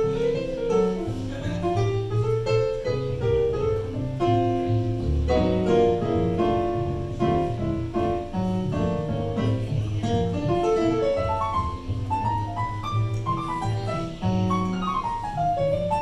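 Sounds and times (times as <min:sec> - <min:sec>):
jazz piano solo on keyboard: 0:00.0 - 0:16.0.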